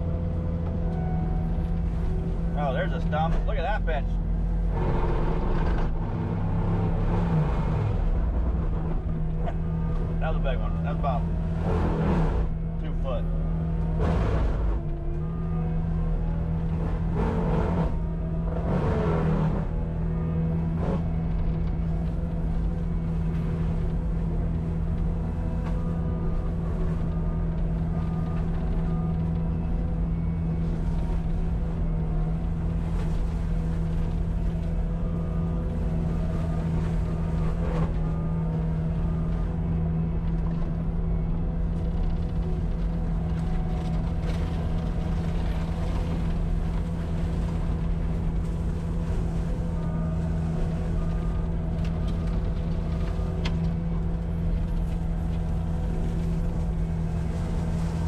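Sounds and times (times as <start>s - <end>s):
diesel engine and mulcher drone: 0.0s - 58.0s.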